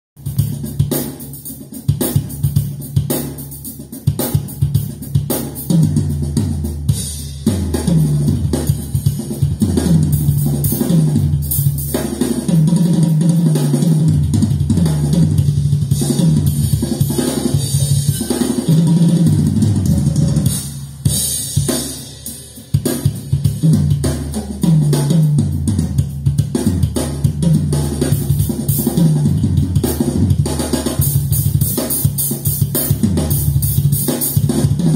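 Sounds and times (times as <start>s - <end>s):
drum kit playing: 0.2s - 34.9s.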